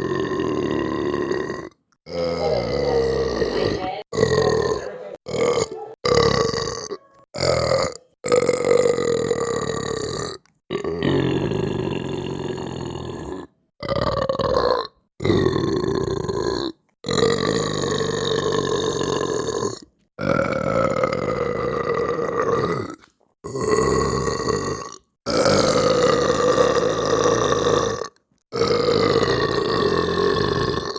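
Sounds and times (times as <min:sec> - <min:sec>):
long belches: 0:00.0 - 0:30.9.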